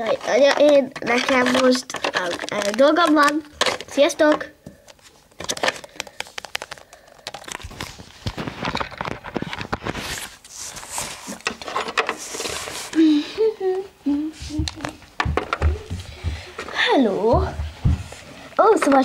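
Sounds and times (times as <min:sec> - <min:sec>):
rustling and clicking handling noise: 0:00.0 - 0:13.1, 0:14.4 - 0:19.0.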